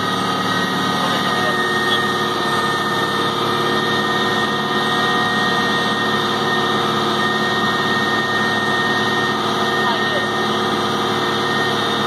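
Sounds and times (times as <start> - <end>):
high-pitched whine: 0.0 - 12.0
tug engine running: 0.0 - 12.0.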